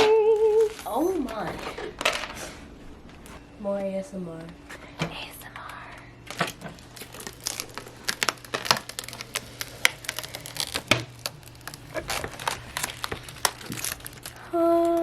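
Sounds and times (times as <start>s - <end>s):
packaging crinkling: 0.0s - 3.6s, 4.4s - 15.0s.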